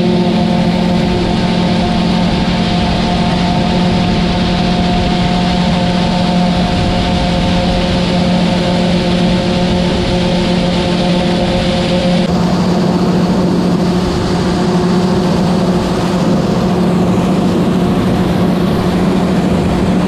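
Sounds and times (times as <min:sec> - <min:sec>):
combine harvester humming: 0:00.0 - 0:20.0.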